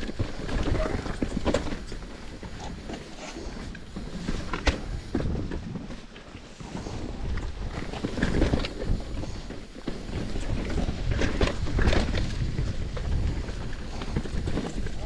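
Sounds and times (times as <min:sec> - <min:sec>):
bike knocking and rattling: 0:00.0 - 0:15.0.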